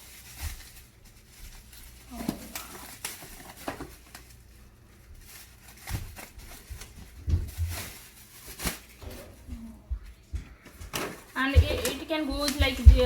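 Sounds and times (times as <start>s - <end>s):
packaging rustling: 0.0s - 9.8s, 10.7s - 13.0s.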